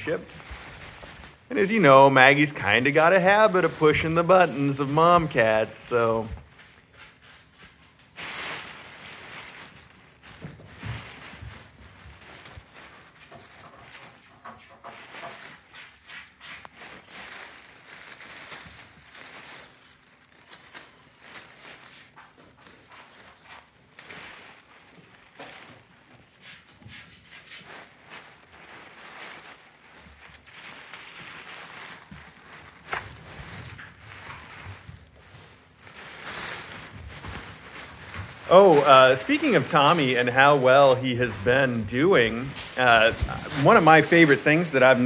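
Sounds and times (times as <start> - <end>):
tissue paper rustling: 0.0 - 45.0.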